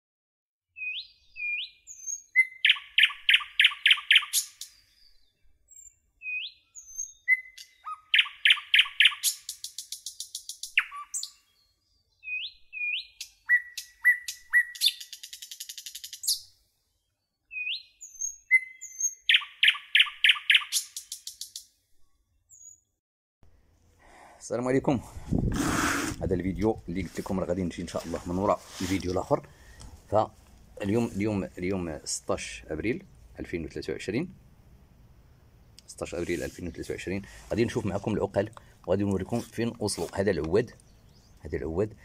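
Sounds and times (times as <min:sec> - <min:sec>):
songbird singing: 0:00.7 - 0:23.0, 0:26.4 - 0:42.0.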